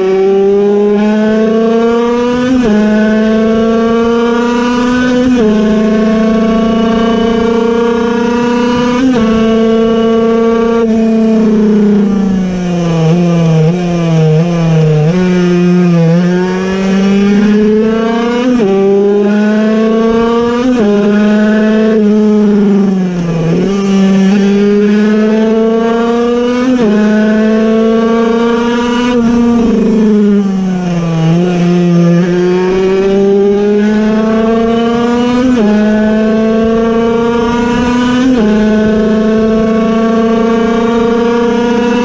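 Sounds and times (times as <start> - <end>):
two-stroke engine racing at high revs: 0.0 - 42.0.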